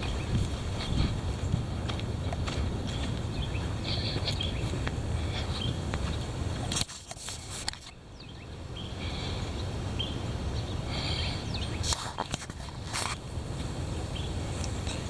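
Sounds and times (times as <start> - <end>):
birds chirping: 0.0 - 12.8, 13.8 - 15.0
wind gusting on microphone: 0.0 - 15.0.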